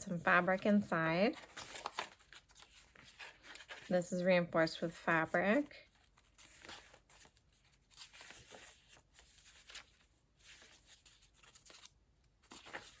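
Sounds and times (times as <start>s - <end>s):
paper pages rustling: 0.0s - 4.0s, 4.8s - 13.0s.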